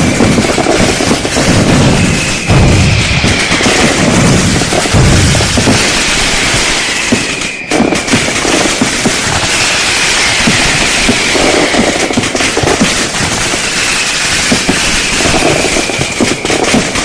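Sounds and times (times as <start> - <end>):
falling whistles: 0.0 - 17.0
fireworks booms: 0.0 - 17.0
fireworks crackling and popping: 0.0 - 17.0.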